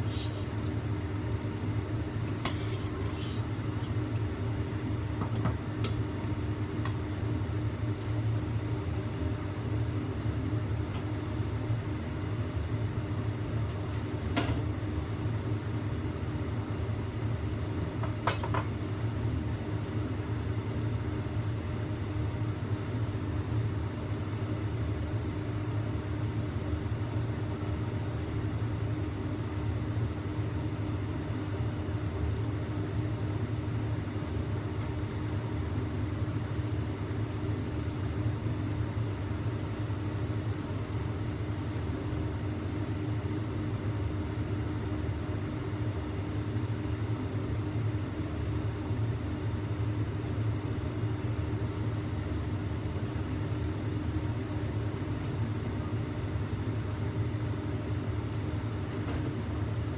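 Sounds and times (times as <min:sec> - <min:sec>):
gas flame and boiling water: 0:00.0 - 0:59.9.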